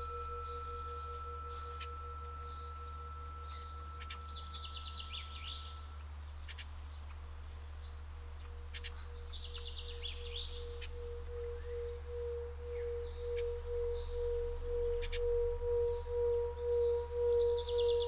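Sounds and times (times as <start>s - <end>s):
singing bowl ringing: 0.0s - 6.4s, 8.1s - 18.0s
songbird trilling: 0.0s - 18.0s.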